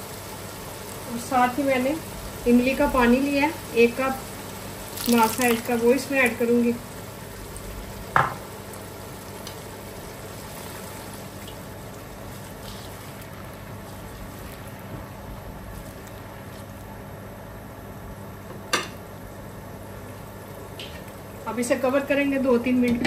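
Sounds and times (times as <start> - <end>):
sauce bubbling and sizzling: 0.0 - 22.7.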